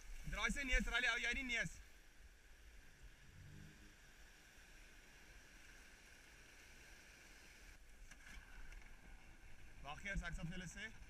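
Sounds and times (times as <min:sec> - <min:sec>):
faint surf: 0:00.0 - 0:11.0.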